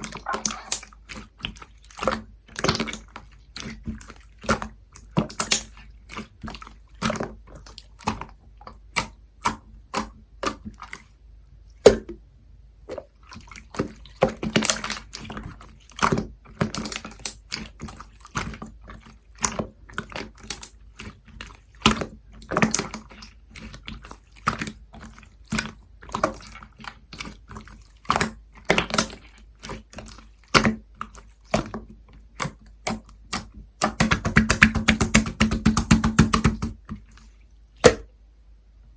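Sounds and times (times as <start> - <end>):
slime squelching by hand: 0.0 - 11.2, 12.9 - 35.6.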